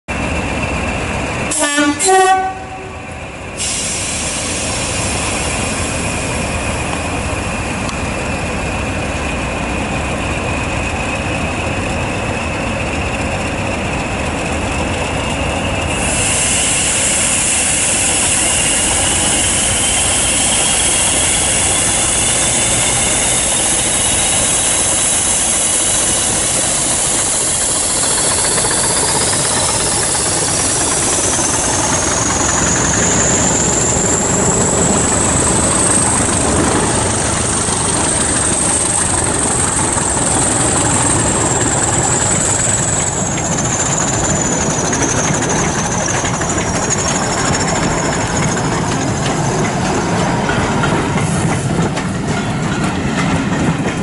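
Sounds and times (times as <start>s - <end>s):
diesel locomotives pulling away: 0.1s - 54.0s.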